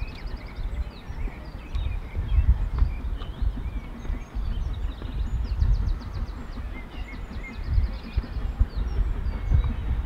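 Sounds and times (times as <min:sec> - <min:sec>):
low uneven rumble: 0:00.0 - 0:10.0
songbirds trilling: 0:00.0 - 0:10.0.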